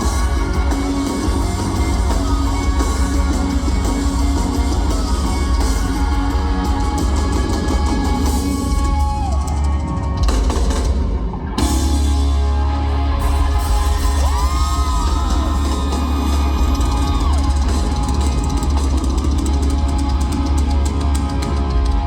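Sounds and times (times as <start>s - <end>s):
loud rock music: 0.0s - 22.0s.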